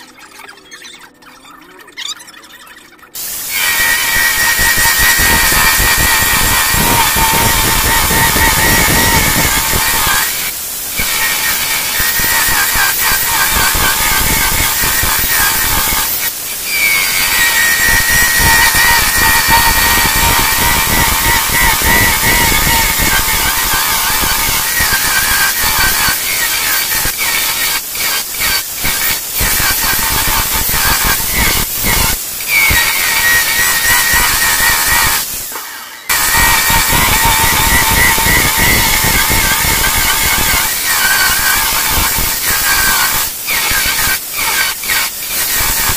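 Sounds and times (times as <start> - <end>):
electric chainsaw cutting wood: 3.4 - 45.9.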